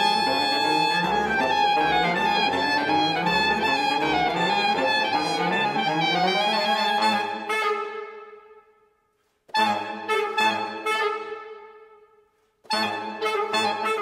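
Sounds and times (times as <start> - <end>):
saxophone quartet playing: 0.0 - 8.4, 9.5 - 11.8, 12.7 - 14.0.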